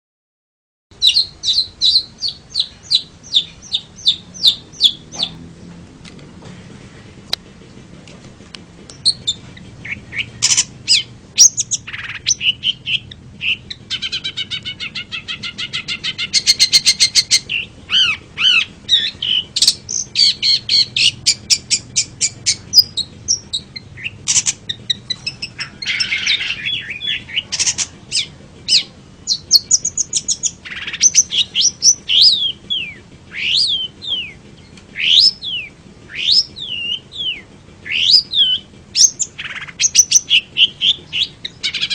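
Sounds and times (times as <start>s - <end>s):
shrike singing: 0.9s - 5.8s, 6.8s - 41.9s.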